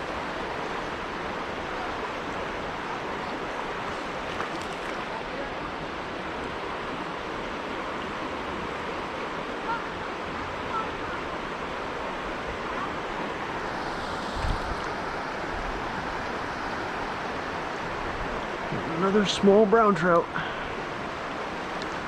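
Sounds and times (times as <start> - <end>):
creek water flowing over rocks: 0.0 - 22.0.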